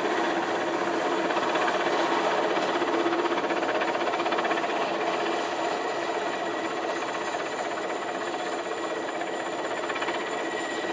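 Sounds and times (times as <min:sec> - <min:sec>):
helicopter rotor pulsing: 0:00.0 - 0:10.9.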